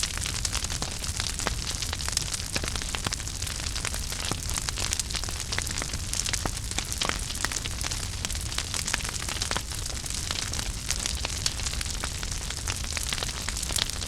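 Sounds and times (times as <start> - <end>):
fire crackling and popping: 0.0 - 14.0
fire rumble and hiss: 0.0 - 14.0.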